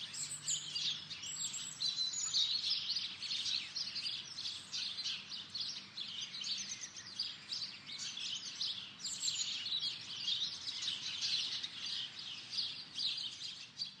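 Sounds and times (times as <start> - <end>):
songbirds chirping and singing: 0.0 - 14.0.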